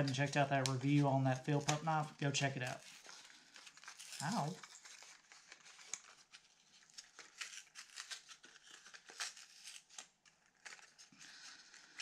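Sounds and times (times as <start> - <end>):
plastic blister pack crinkling: 0.0 - 12.0.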